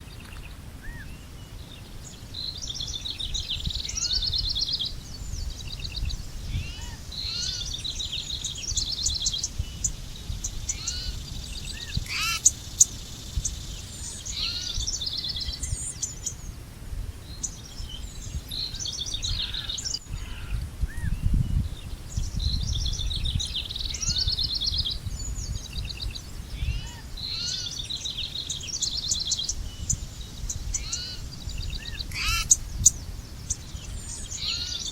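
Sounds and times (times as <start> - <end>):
songbirds trilling and chirping: 0.0 - 34.9.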